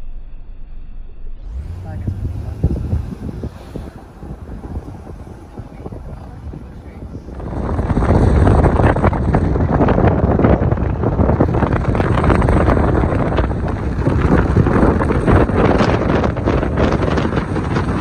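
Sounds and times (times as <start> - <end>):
wind buffeting microphone: 1.5 - 18.0.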